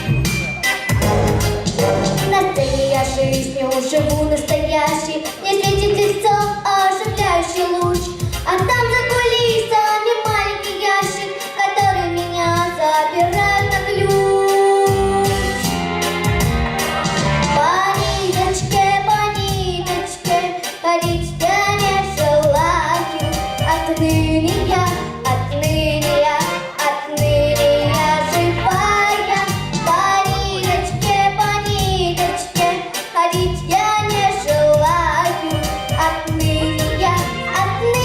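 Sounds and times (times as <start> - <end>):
backing track with steady beat: 0.0 - 38.0
girl singing: 1.8 - 15.4, 17.6 - 38.0.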